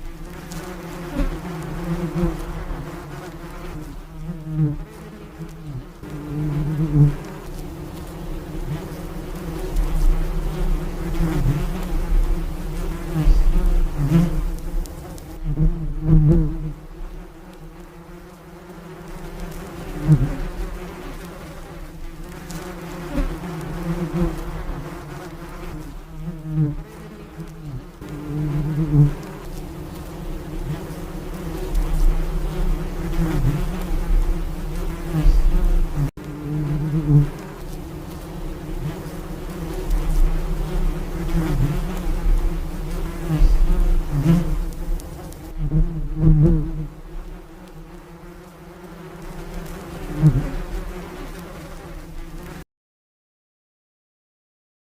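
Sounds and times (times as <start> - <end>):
bees buzzing: 0.0 - 52.6.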